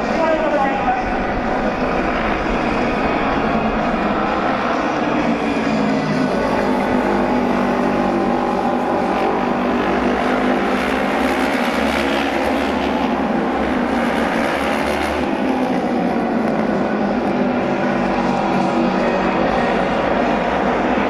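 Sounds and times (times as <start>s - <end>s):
racing motorcycle engines droning: 0.0s - 21.0s.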